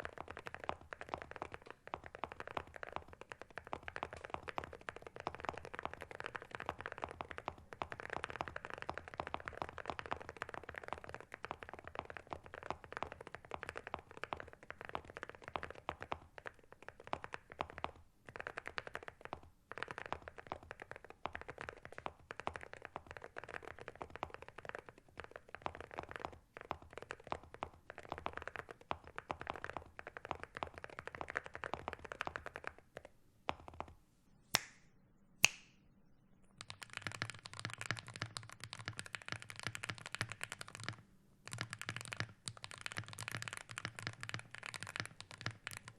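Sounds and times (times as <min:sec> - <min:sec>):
deeper mechanical keyboard typing: 0:00.0 - 0:33.9, 0:36.6 - 0:45.9
typing on mechanical keyboard: 0:00.0 - 0:34.0, 0:36.6 - 0:45.9.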